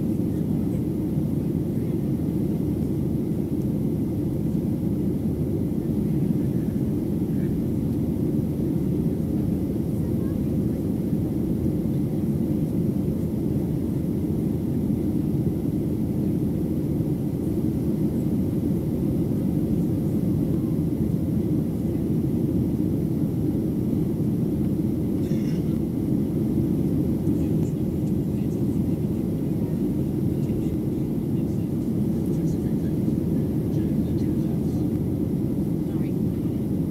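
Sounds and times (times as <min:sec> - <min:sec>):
airplane cabin engine rumble: 0:00.0 - 0:36.9.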